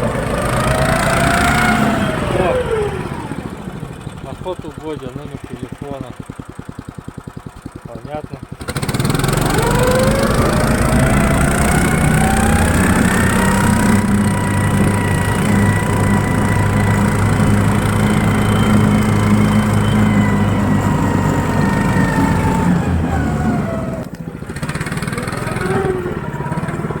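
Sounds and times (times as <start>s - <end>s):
snow tow engine running: 0.0s - 27.0s.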